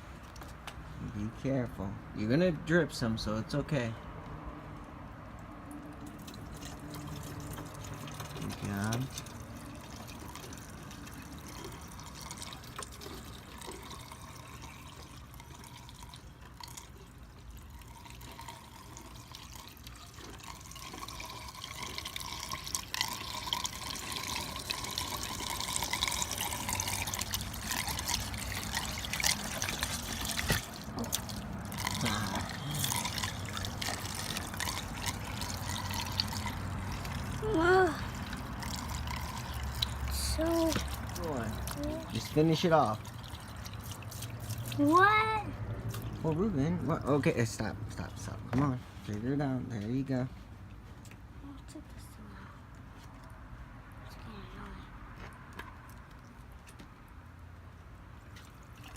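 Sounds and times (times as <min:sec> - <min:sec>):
fluid trickling into reservoir: 0:04.7 - 0:45.2, 0:45.8 - 0:50.2, 0:52.7 - 0:53.4, 0:55.5 - 0:58.9.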